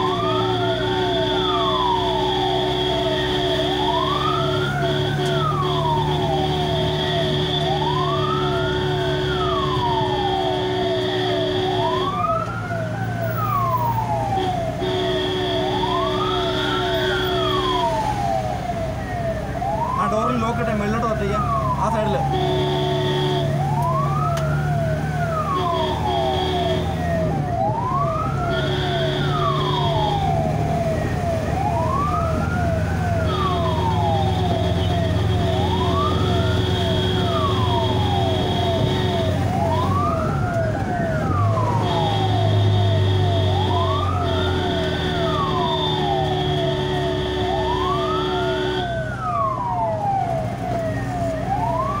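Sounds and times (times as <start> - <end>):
ambulance siren wail and yelp: 0.0 - 52.0
engine and road rumble: 0.0 - 52.0
steady high siren tone: 0.0 - 52.0.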